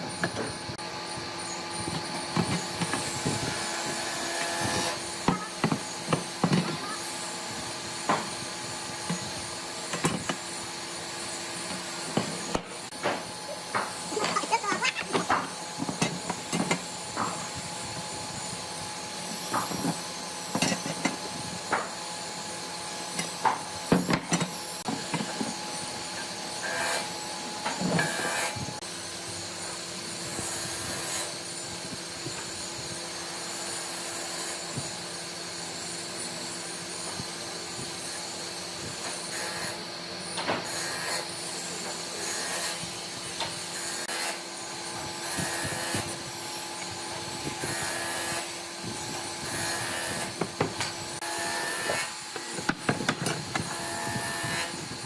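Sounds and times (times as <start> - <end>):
workshop hum: 0.0 - 55.0.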